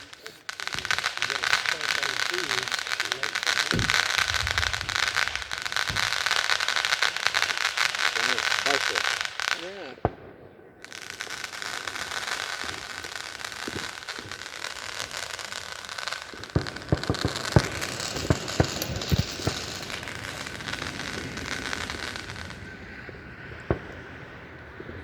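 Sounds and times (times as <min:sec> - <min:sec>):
firework whistling: 0:00.0 - 0:25.0
fireworks hissing and crackling: 0:00.0 - 0:25.0
fireworks popping: 0:00.0 - 0:25.0.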